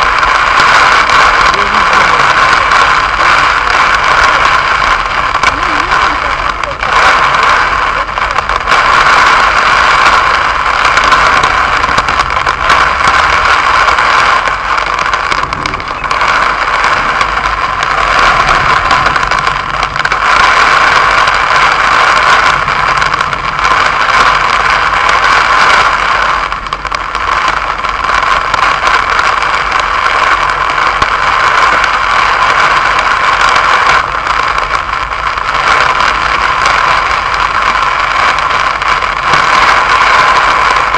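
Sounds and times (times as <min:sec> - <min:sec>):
heavy rain on car roof: 0:00.0 - 0:40.9
low steady car rumble: 0:00.0 - 0:40.9.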